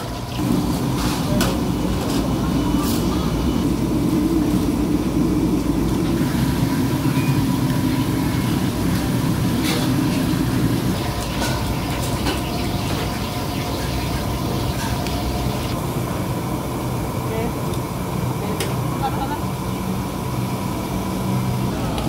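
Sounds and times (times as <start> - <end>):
low machinery rumble: 0.0 - 22.0.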